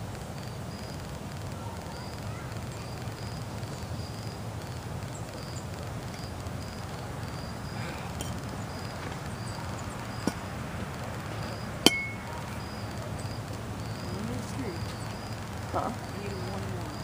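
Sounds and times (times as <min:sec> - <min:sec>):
insect chirping: 0:00.0 - 0:17.0
steady low background noise: 0:00.0 - 0:17.0.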